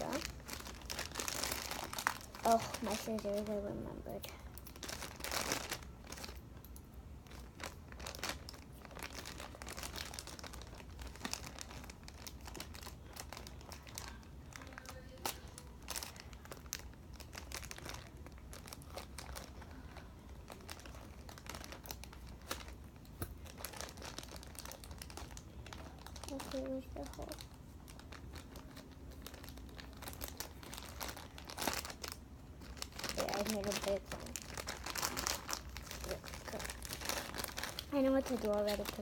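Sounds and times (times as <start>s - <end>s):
packaging crinkling and rustling: 0.0s - 39.0s.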